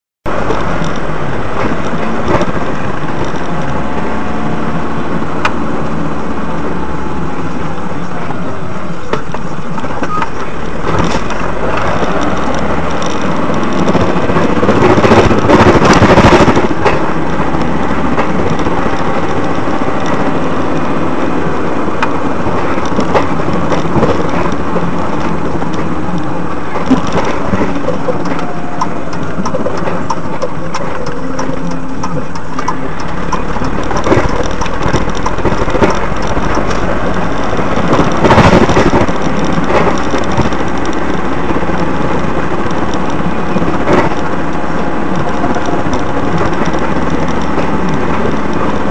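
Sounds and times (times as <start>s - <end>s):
vehicle engine and road rumble: 0.2s - 48.9s.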